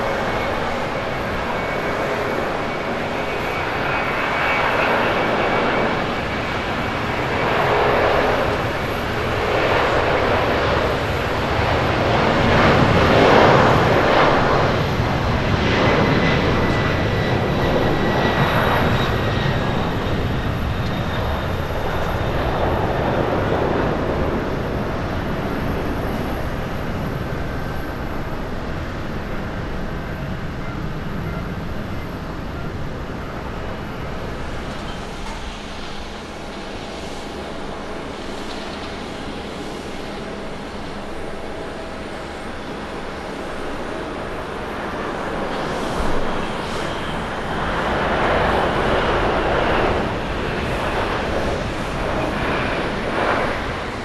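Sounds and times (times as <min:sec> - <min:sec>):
faint jet whine: 0:00.0 - 0:54.0
jet engines at takeoff: 0:00.0 - 0:54.0.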